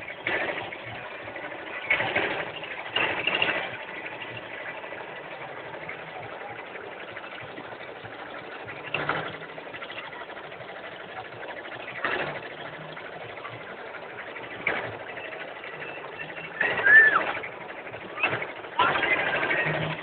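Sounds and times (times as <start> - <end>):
pedal-powered saw rattling: 0.0 - 20.0.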